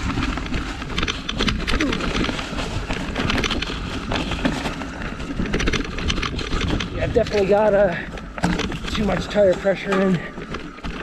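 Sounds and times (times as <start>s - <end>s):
mountain bike rattling over rocks: 0.0s - 11.0s.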